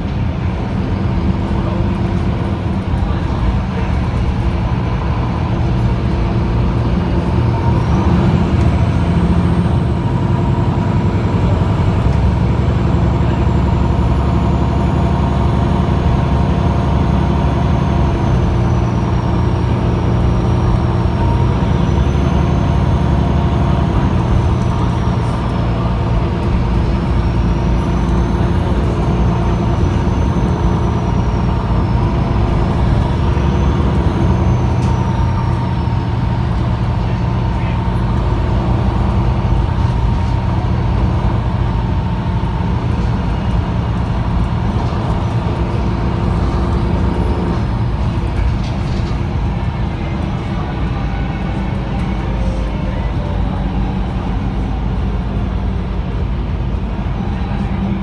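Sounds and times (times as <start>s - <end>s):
bus engine pulling away: 0.0s - 58.0s.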